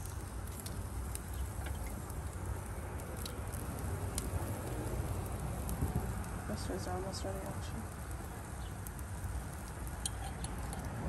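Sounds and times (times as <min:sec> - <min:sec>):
crackles: 0:00.0 - 0:11.0
shrimp laid on grill grate: 0:00.0 - 0:11.0
steady low rumble: 0:00.0 - 0:11.0.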